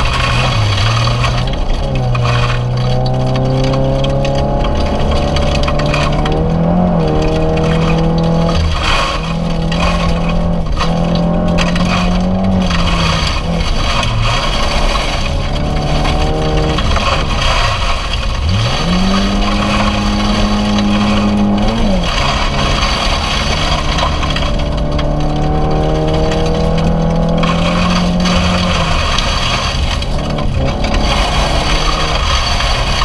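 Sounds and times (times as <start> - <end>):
rally car engine revving: 0.0 - 33.0
tyre and gravel noise: 0.0 - 33.0.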